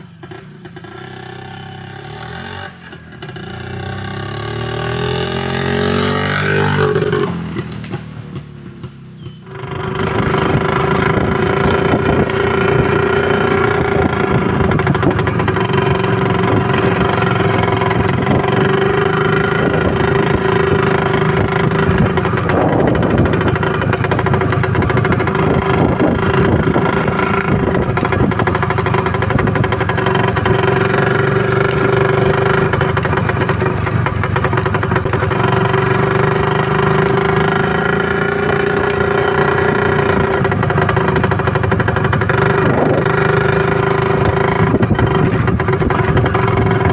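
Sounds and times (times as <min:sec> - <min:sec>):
two-stroke motorcycle engine running: 0:00.0 - 0:46.9.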